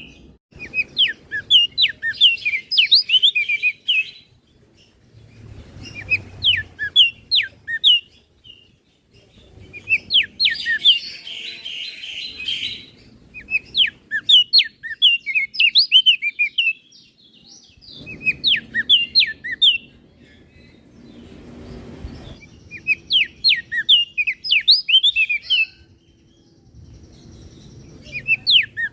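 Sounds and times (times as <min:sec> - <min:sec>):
harsh bird chatter: 0:00.0 - 0:28.9.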